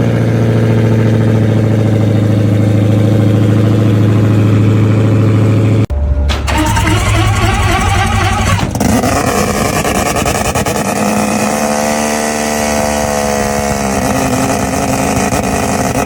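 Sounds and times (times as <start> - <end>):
car engine running: 0.0 - 16.0
second car engine revving: 0.0 - 16.0.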